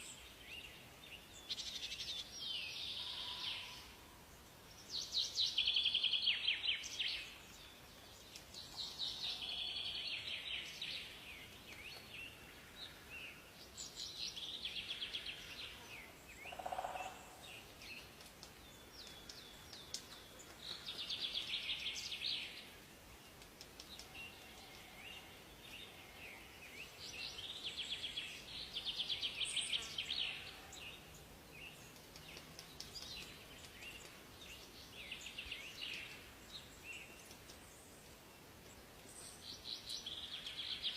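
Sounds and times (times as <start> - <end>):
faint background hiss: 0.0 - 40.9
songbirds singing trills: 0.0 - 40.9.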